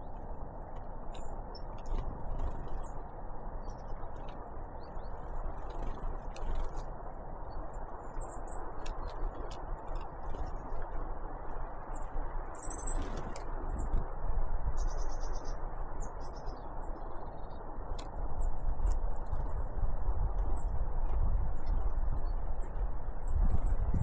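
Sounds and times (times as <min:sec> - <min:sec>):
small songbirds chirping: 0:00.0 - 0:24.0.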